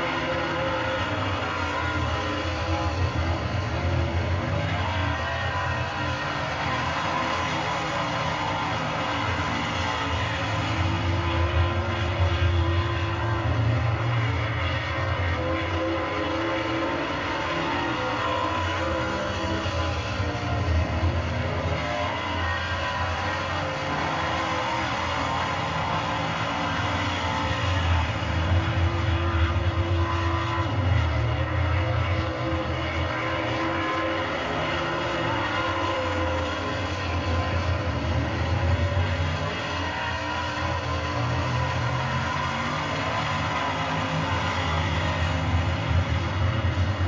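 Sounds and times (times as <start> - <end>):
race car engines droning: 0.0 - 47.0.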